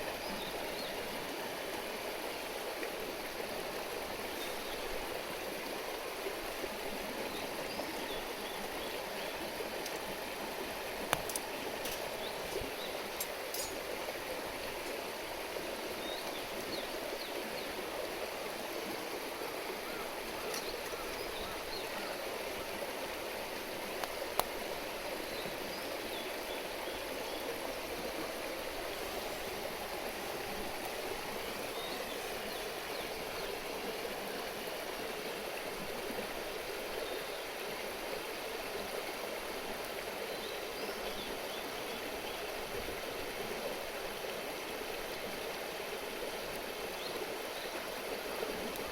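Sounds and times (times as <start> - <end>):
stream rushing and burbling: 0.0 - 48.9.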